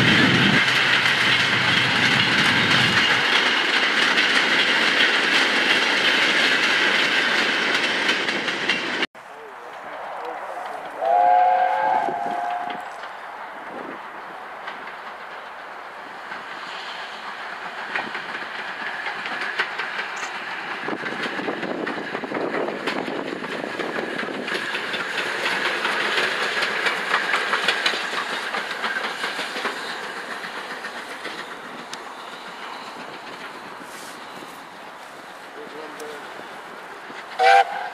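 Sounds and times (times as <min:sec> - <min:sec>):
steam locomotive exhaust: 0:00.0 - 0:37.9
wheels clicking over rail joints: 0:00.0 - 0:37.9.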